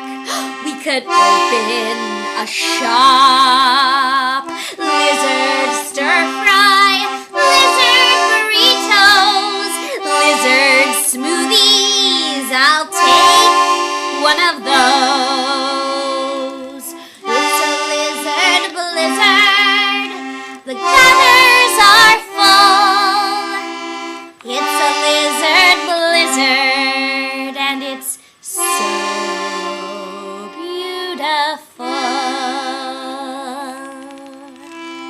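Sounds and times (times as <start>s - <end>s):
toy accordion playing polka tune: 0.0s - 35.0s
wordless singing or humming: 0.5s - 23.7s, 24.4s - 34.6s.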